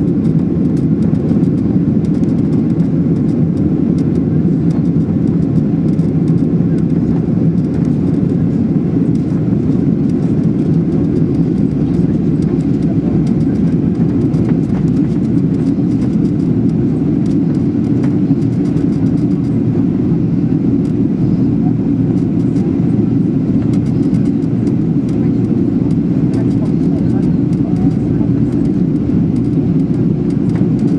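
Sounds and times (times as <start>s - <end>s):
airplane cabin engine rumble: 0.0s - 30.9s.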